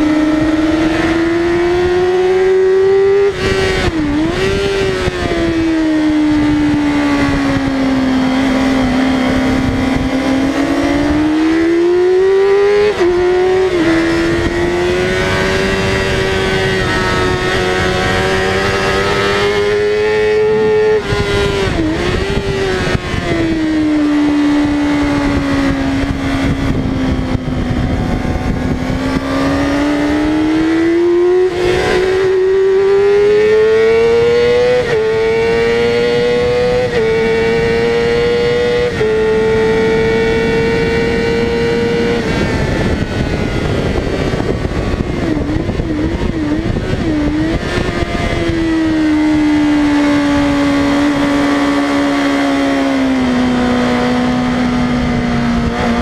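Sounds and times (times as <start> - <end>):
motorcycle engine at high revs: 0.0 - 56.0
wind rushing: 0.0 - 56.0.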